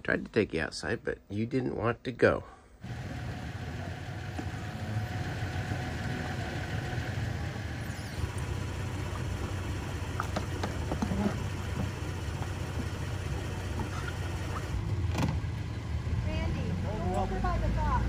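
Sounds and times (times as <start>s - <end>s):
engine idling: 2.8s - 18.0s.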